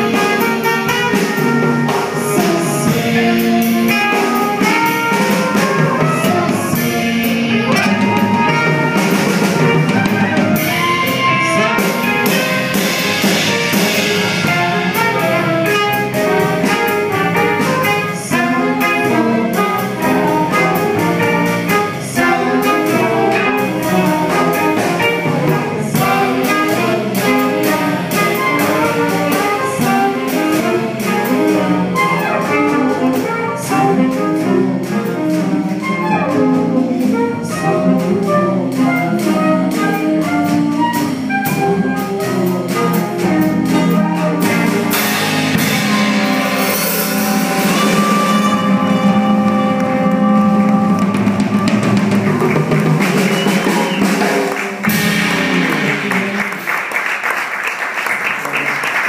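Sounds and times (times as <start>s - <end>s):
drum kit cymbals: 0.0s - 37.4s, 38.1s - 56.6s
jazz band playing: 0.0s - 59.0s
trumpet: 0.0s - 59.0s.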